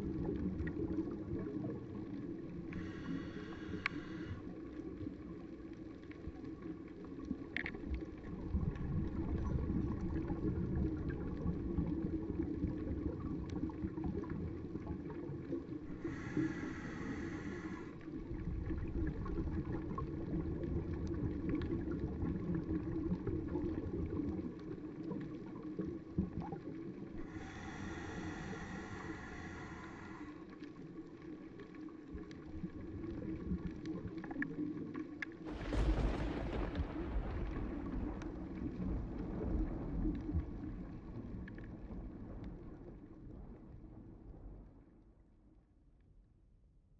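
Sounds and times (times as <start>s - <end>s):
underwater rush of moving water: 0.0s - 44.9s.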